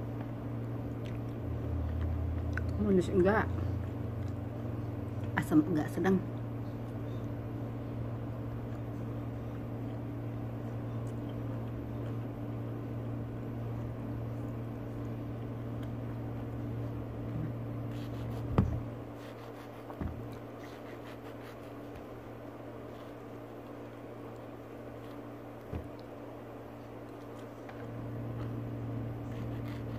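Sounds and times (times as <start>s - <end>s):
low electrical hum: 0.0s - 29.9s.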